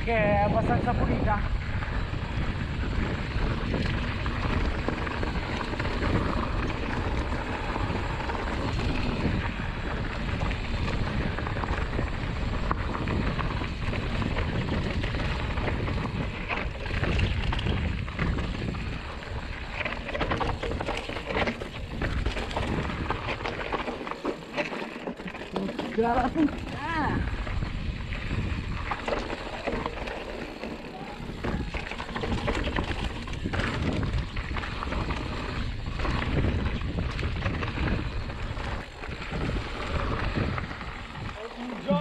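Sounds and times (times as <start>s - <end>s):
wind buffeting microphone: 0.0s - 24.2s, 25.9s - 42.0s
bike rattling and knocking: 0.0s - 42.0s
bike tyres on dirt and leaves: 0.0s - 42.0s.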